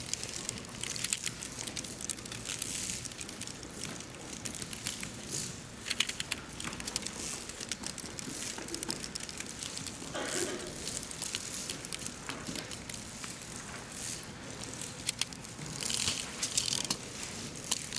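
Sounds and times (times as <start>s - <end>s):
abacus beads clicking: 0.0s - 17.9s.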